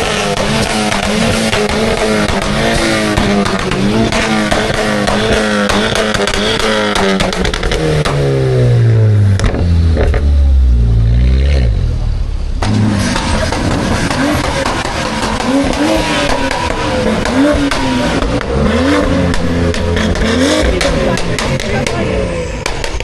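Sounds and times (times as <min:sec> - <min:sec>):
car engine revving: 0:00.0 - 0:23.0
engine running with whine: 0:00.0 - 0:23.0.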